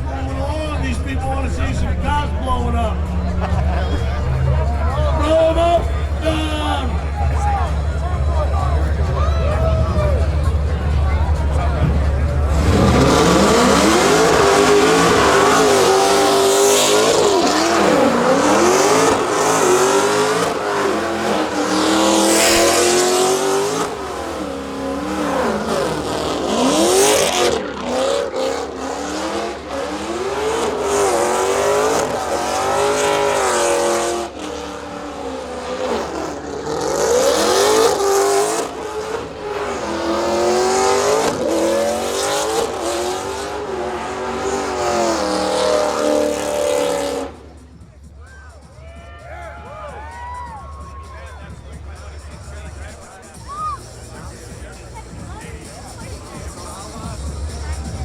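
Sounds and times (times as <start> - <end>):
car engine revving: 0.0 - 48.3, 51.1 - 58.0.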